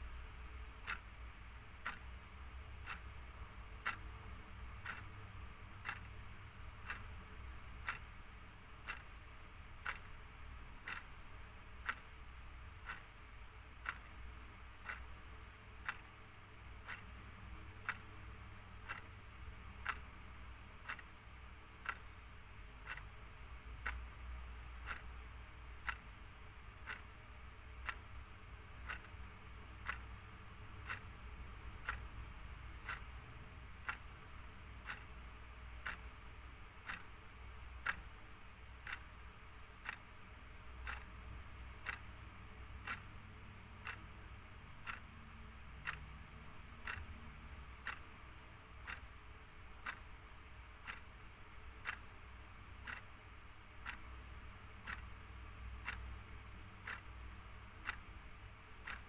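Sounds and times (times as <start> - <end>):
faint low hum: 0.0 - 59.0
mechanical clock ticking: 0.3 - 59.0.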